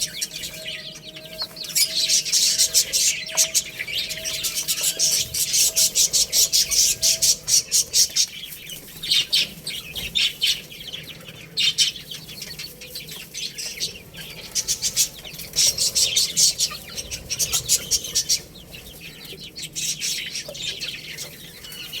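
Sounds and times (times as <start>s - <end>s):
chicks chirping: 0.0s - 22.0s
hens clucking: 0.0s - 22.0s.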